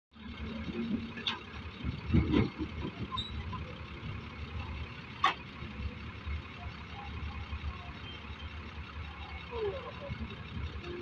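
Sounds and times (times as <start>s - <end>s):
diesel engine rumbling: 0.1s - 11.0s.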